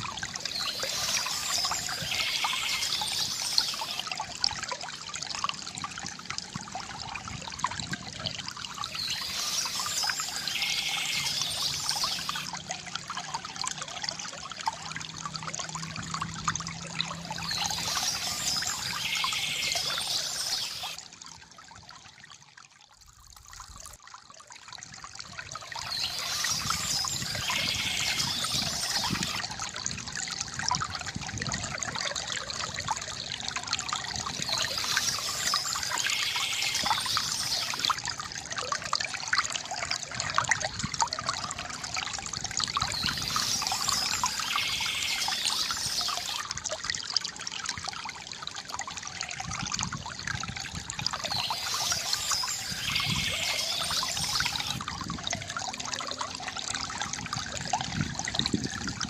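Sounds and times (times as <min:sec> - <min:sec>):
water trickling from fountain: 0:00.0 - 0:59.0.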